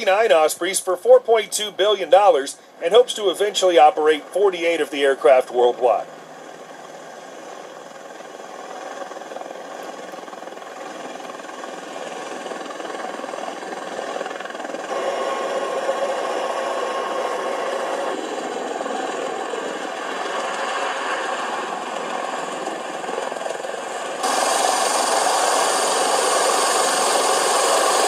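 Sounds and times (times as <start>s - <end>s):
aircraft rotors rushing drone: 0.0s - 28.0s
steady engine hum: 0.0s - 28.0s.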